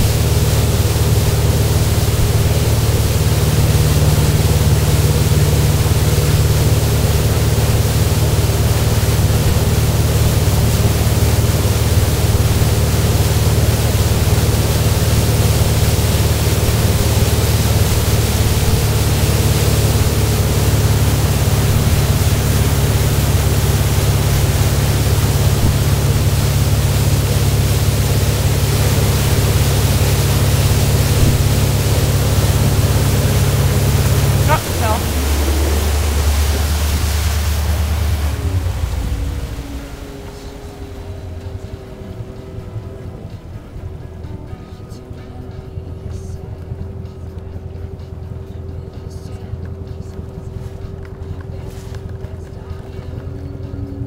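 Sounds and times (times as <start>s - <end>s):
rushing wake and air: 0.0s - 52.4s
speedboat engine running: 0.0s - 54.0s.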